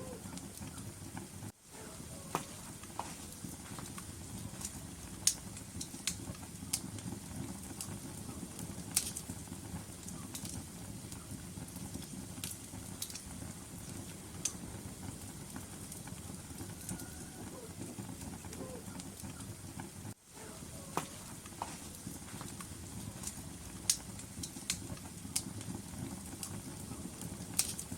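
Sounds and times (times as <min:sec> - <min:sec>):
burning logs crackling and popping: 0:00.0 - 0:27.9
fire rumbling: 0:00.0 - 0:27.9.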